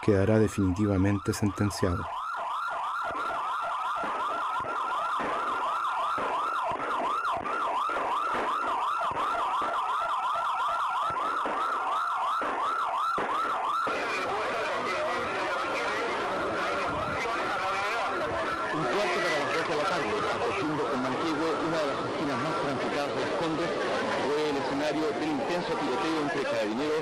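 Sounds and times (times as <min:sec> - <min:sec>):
police sirens yelping: 0:00.0 - 0:27.0.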